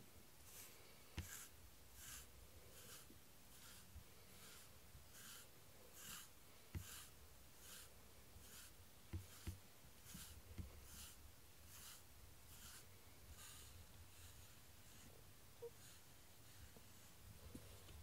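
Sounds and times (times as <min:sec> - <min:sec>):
brush strokes through cat fur: 0:00.0 - 0:18.0.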